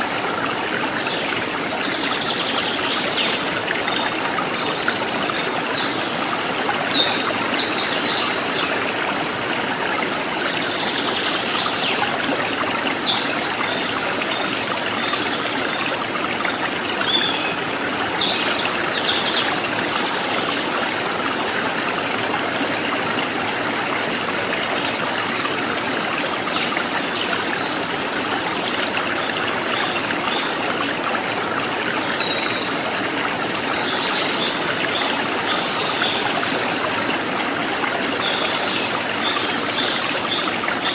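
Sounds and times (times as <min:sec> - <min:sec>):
stream trickling and babbling: 0:00.0 - 0:40.9.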